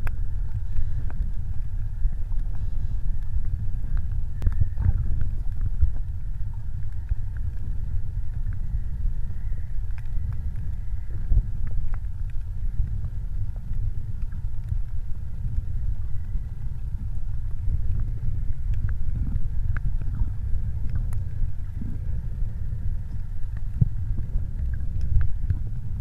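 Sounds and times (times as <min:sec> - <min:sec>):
faint underwater clicks: 0:00.0 - 0:26.0
underwater rumble: 0:00.0 - 0:26.0.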